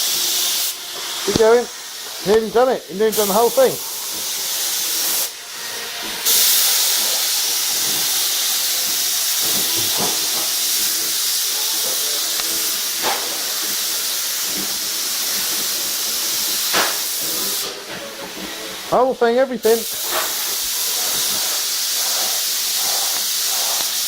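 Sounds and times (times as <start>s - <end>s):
paint spray gun hissing: 0.0s - 17.9s, 18.9s - 24.0s.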